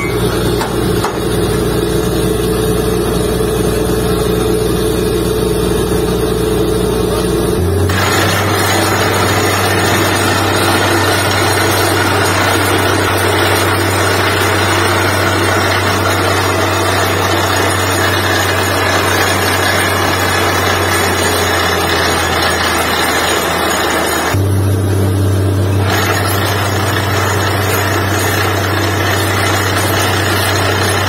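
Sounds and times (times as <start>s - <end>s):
drilling rig engine humming: 0.0s - 31.0s.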